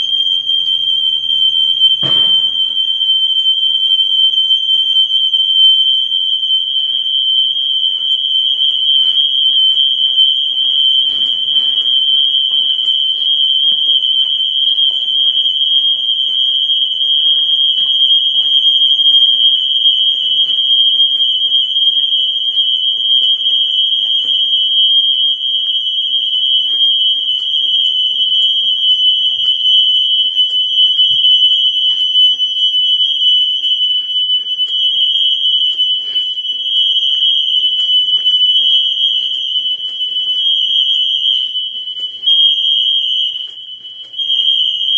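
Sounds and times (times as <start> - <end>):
high-pitched electronic alarm tone: 0.0 - 44.9.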